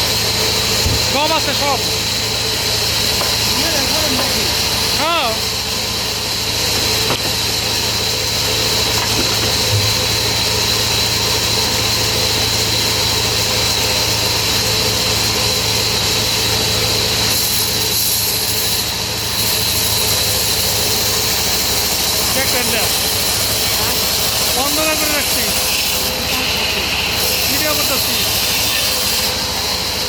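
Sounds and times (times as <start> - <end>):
saw high whine: 0.0 - 30.0
sawmill saw humming: 0.0 - 30.0.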